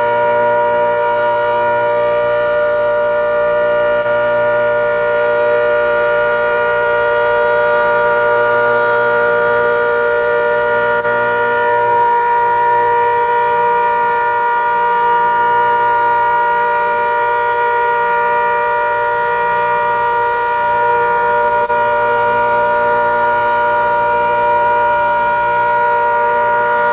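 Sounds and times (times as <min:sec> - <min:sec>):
warning siren steady chord: 0:00.0 - 0:26.9.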